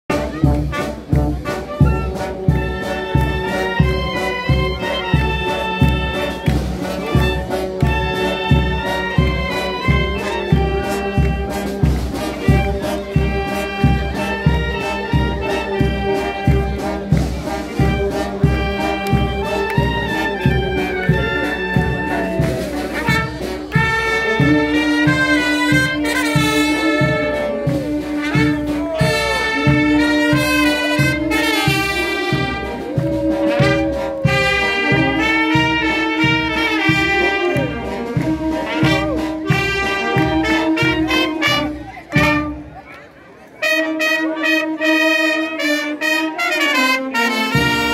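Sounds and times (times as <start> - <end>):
street brass band playing: 0.1 - 47.9.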